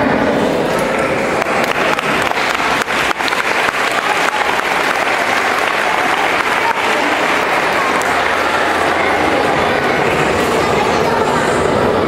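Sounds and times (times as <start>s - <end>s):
audience applauding: 0.8s - 11.3s.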